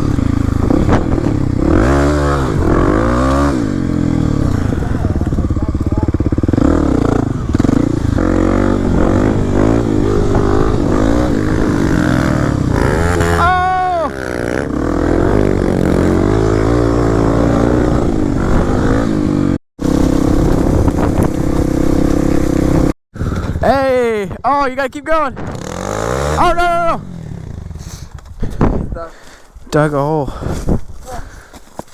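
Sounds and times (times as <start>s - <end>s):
dirt bike engine revving: 0.0s - 23.0s, 25.4s - 28.2s.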